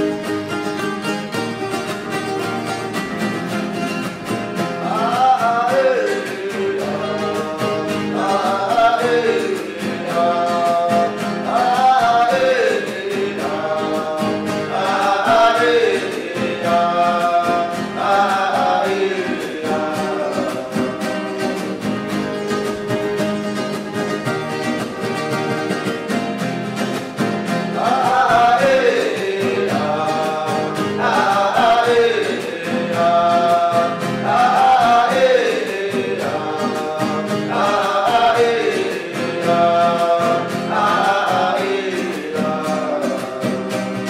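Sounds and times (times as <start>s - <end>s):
strummed acoustic guitars: 0.0s - 44.0s
men singing: 4.0s - 22.6s, 26.7s - 44.0s.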